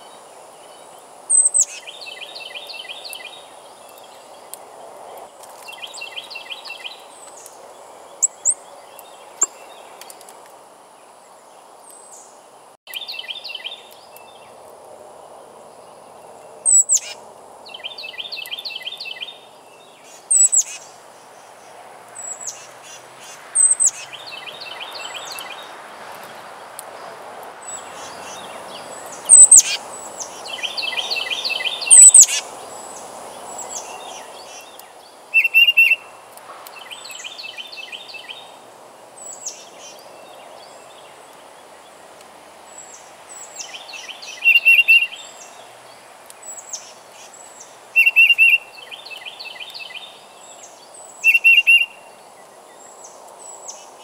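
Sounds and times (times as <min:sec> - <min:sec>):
faint steady rush: 0:00.0 - 0:48.0
songbirds chattering trills: 0:00.0 - 0:54.0.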